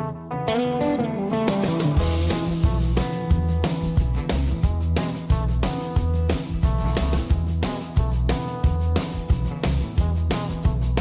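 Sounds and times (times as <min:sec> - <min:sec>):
guitar: 0:00.0 - 0:11.0
drum beat: 0:01.6 - 0:11.0.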